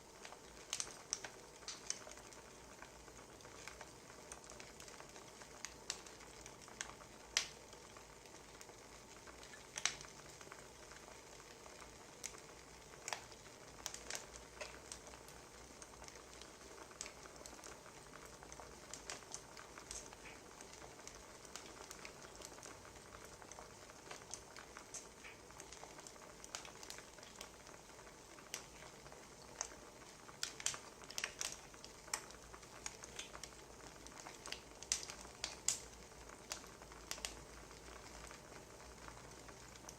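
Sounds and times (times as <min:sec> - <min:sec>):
faint steady hiss: 0:00.0 - 0:39.9
wood fire popping and snapping: 0:00.0 - 0:39.9.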